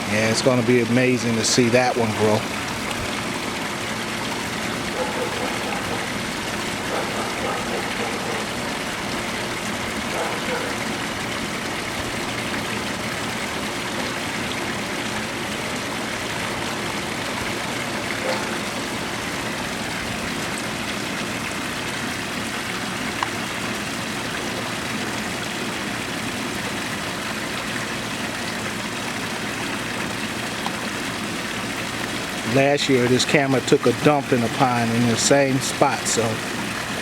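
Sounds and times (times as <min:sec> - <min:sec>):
pond water running: 0:00.0 - 0:37.0.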